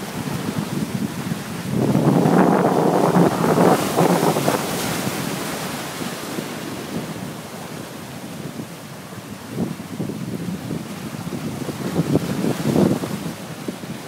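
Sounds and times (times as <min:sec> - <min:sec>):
waves breaking on rocks: 0:00.0 - 0:14.0
wind buffeting microphone: 0:00.0 - 0:14.0.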